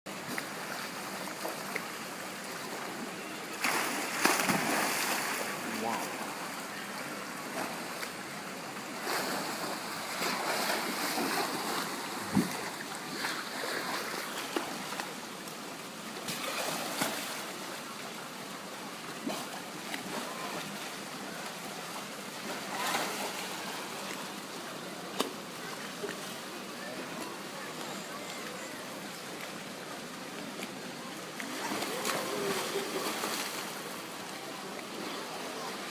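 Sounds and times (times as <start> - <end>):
steady rush of water: 0.1 - 35.9
water splashing in a pool: 0.1 - 35.9.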